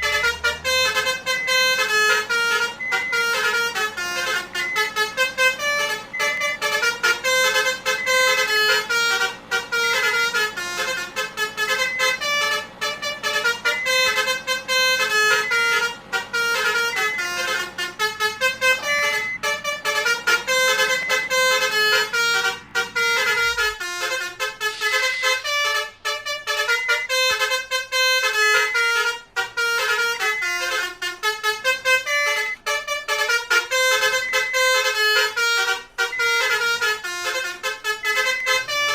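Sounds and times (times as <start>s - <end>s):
multi-tone horn melody: 0.0s - 38.9s.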